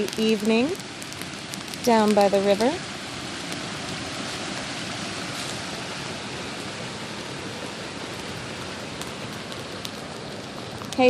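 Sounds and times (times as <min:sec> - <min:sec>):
river water rushing: 0:00.8 - 0:11.0.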